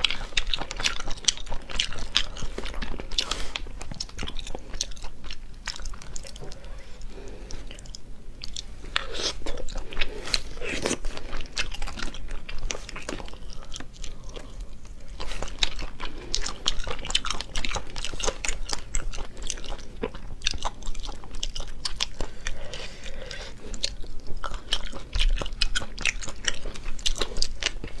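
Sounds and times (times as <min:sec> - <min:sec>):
wet chewing clicks and smacks: 0:00.0 - 0:22.6, 0:23.3 - 0:28.0.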